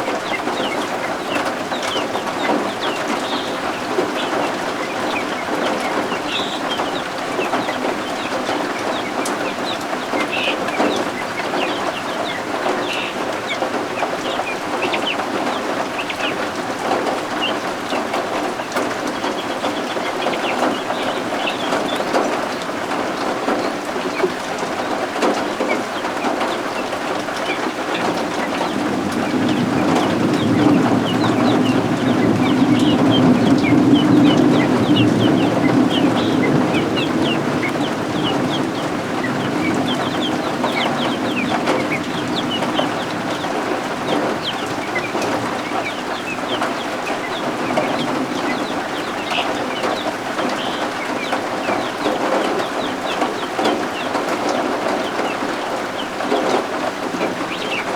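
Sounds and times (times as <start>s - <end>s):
guinea fowl chicks peeping: 0.0s - 57.9s
low rumble of thunder: 0.0s - 57.9s
steady rain: 0.0s - 57.9s.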